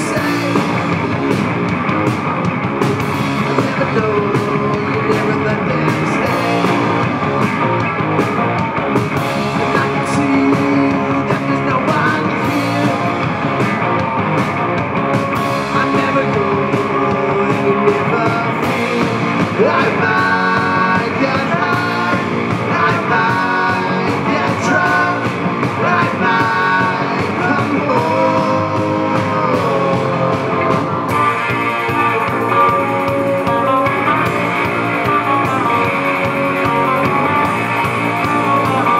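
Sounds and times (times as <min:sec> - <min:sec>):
person singing: 0:00.0 - 0:01.0, 0:03.3 - 0:07.3, 0:09.3 - 0:13.4, 0:15.5 - 0:38.9
live rock band playing: 0:00.0 - 0:38.9.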